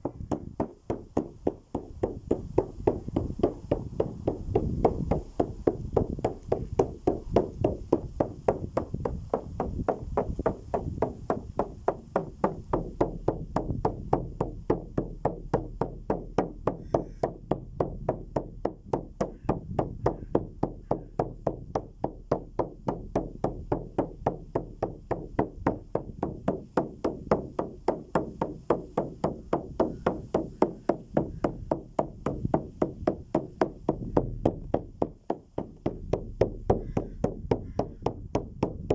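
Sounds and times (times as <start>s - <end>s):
dry percussion knock: 0.0s - 38.9s.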